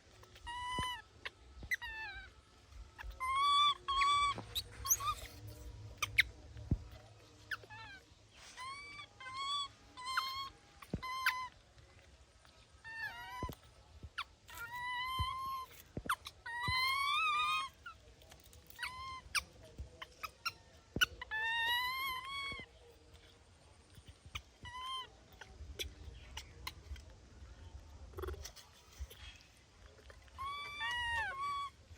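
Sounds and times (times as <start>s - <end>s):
baby monkey high-pitched calls: 0.2s - 11.6s, 12.8s - 18.0s, 18.6s - 27.1s, 28.1s - 29.4s, 30.1s - 31.9s.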